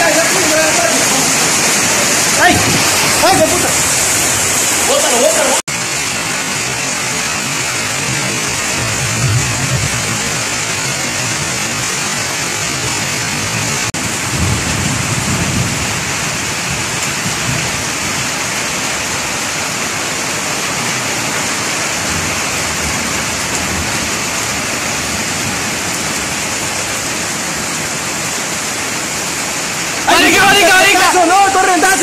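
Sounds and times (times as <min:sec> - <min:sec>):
heavy rain and hail: 0:00.0 - 0:32.0.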